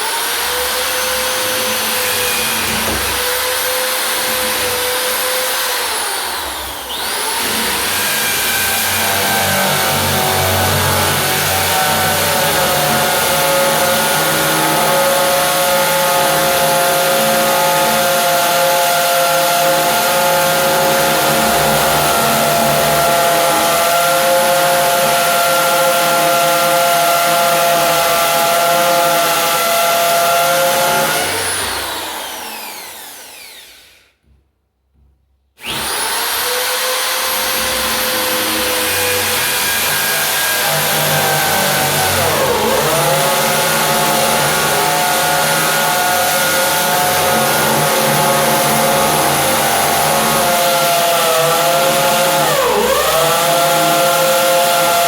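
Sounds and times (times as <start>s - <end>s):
electric drill running: 0.0s - 34.1s, 35.6s - 55.0s.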